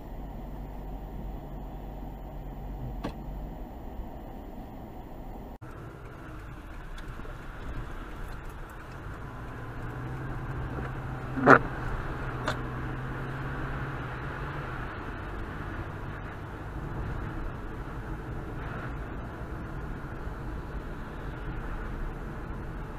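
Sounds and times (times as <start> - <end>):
road and cabin noise: 0.0 - 22.9.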